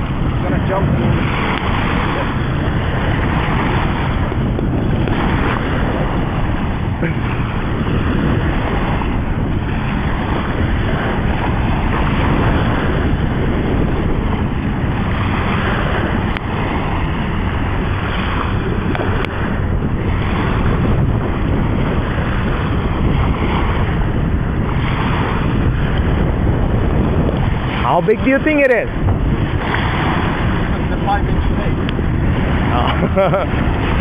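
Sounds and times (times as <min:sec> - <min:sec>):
surf washing on shore: 0:00.0 - 0:34.0
wind buffeting microphone: 0:00.0 - 0:34.0.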